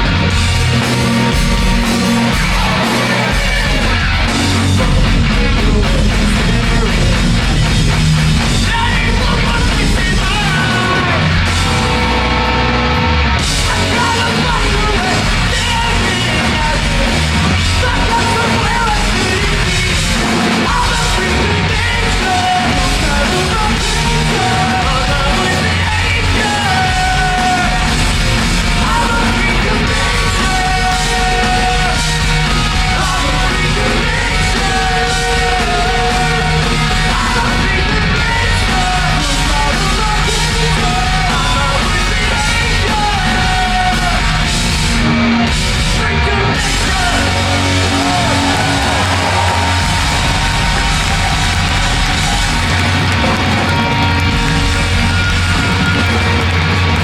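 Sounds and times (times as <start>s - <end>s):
punk rock band playing: 0.0s - 57.0s
shouted and sung vocals: 0.0s - 57.0s.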